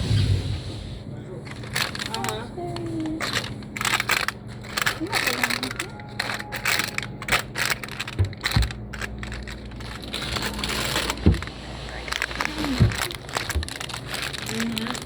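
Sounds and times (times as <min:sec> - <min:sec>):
steady low hum: 0:00.0 - 0:15.0
rustling and crackling handling noise: 0:01.4 - 0:15.0.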